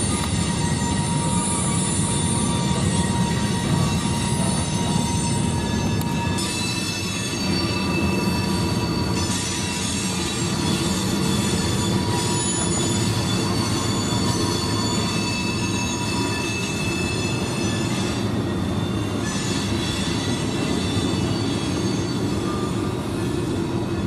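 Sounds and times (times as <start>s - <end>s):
freight train rolling: 0.0s - 24.0s
train wheels squealing on rail: 0.0s - 24.0s.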